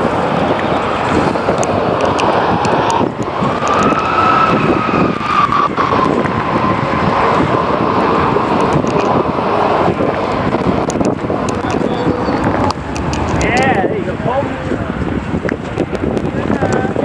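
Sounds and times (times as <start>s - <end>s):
aircraft flying over: 0.0s - 17.0s.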